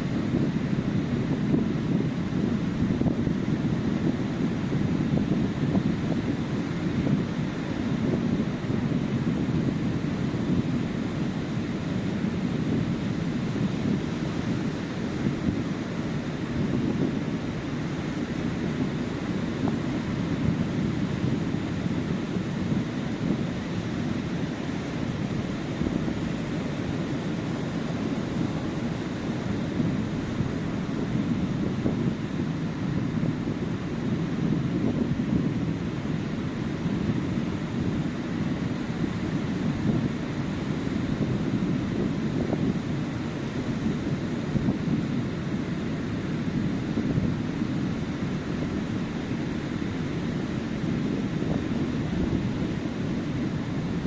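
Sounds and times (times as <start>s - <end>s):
surf washing on sandy beach: 0.0s - 54.0s.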